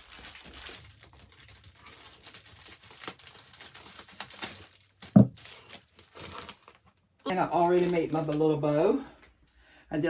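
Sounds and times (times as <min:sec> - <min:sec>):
plastic gift bag crinkling: 0:00.0 - 0:08.8.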